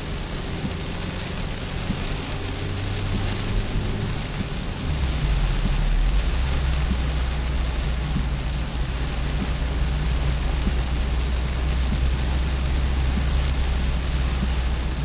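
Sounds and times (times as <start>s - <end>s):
low hum of engine and tyres: 0.0s - 15.0s
rain on car windscreen and roof: 0.0s - 15.0s.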